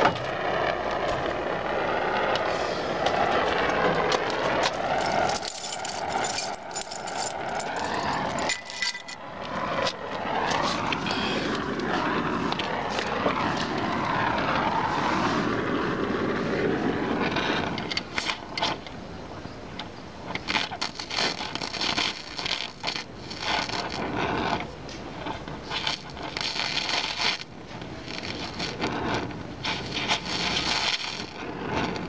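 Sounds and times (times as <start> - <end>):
aircraft flying over: 0.0 - 32.0
welding torch hissing: 0.0 - 32.0.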